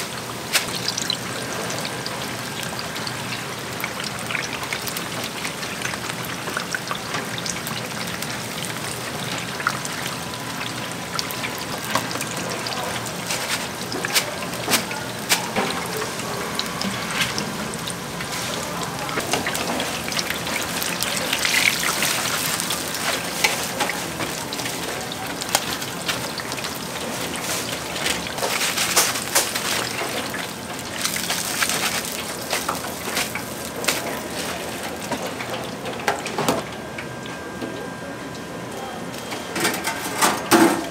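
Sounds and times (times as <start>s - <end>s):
food deep-frying in hot oil: 0.0s - 39.9s.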